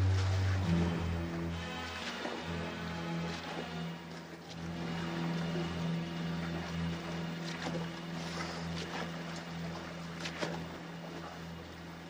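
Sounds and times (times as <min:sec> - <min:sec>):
boat engine idling: 0:00.0 - 0:12.0
sea wash: 0:00.0 - 0:12.0.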